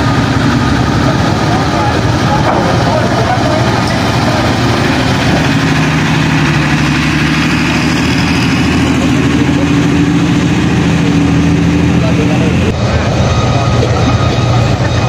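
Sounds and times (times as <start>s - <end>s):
truck diesel engine at low revs: 0.0s - 15.0s.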